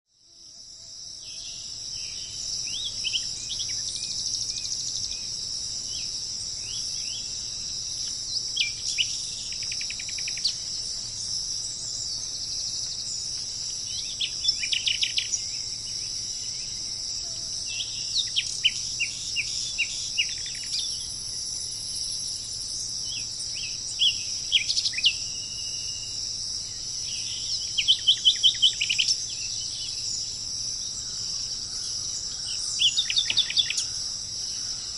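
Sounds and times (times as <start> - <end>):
insects droning: 0.1 - 34.9
birds chirping: 1.3 - 34.9.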